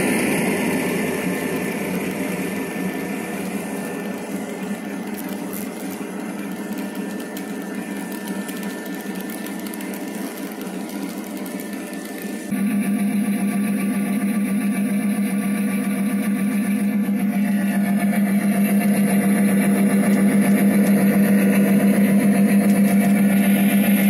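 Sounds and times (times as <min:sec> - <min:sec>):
model train wheels rattling: 0:00.0 - 0:12.5, 0:16.1 - 0:24.0.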